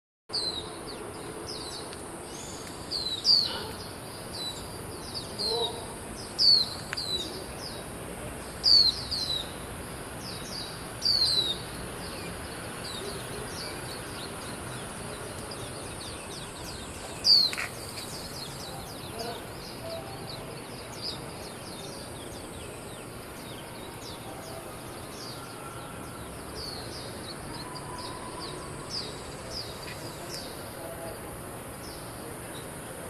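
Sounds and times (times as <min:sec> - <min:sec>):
steady high-pitched hiss: 0:00.4 - 0:33.0.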